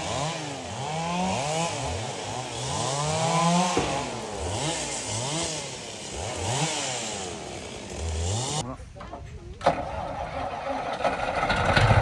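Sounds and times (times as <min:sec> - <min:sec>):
chainsaws revving: 0:00.0 - 0:08.6, 0:09.7 - 0:12.0.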